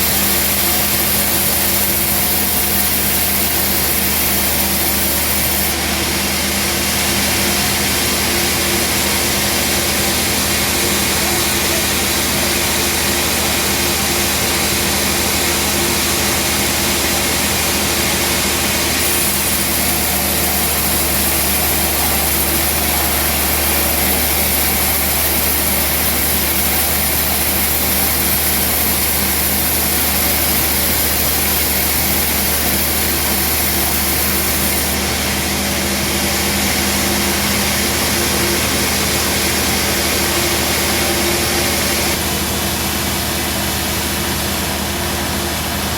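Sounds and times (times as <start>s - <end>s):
band sawmill running: 0.0s - 45.9s.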